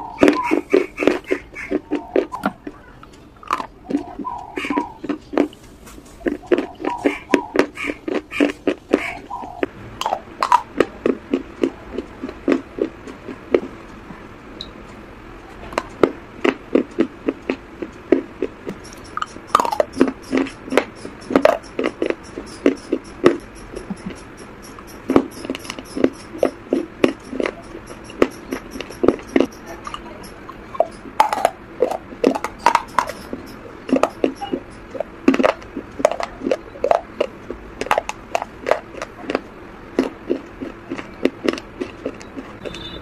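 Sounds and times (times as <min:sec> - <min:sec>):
mouth chewing crunchy food: 0:00.0 - 0:13.8, 0:15.7 - 0:43.0.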